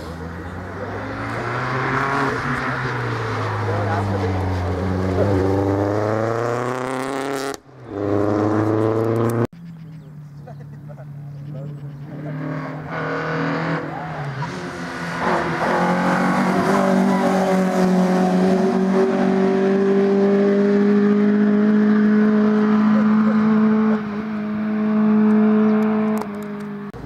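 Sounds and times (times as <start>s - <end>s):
rally car engine at high revs: 0.0s - 9.5s, 12.0s - 27.0s.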